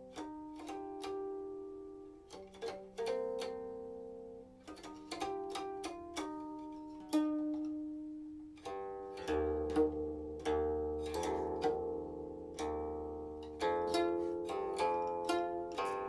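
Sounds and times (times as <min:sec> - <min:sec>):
plucked zither notes: 0:00.0 - 0:16.0.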